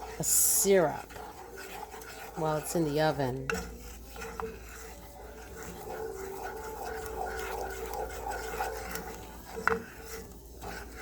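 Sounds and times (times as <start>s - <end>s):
spoon scraping a saucepan: 0.0s - 11.0s.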